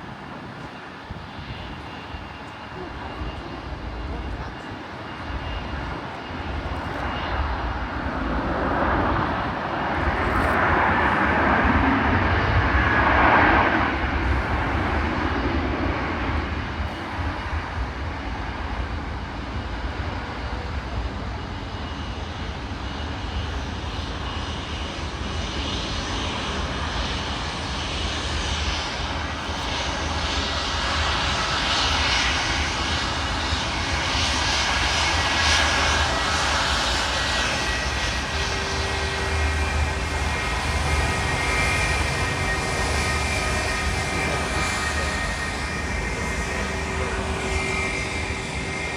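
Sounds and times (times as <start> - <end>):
jet engine roar: 0.0 - 48.9.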